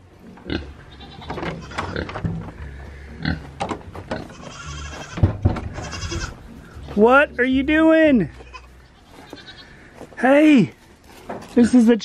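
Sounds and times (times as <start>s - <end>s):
goat moving on wood chips: 1.1s - 12.0s.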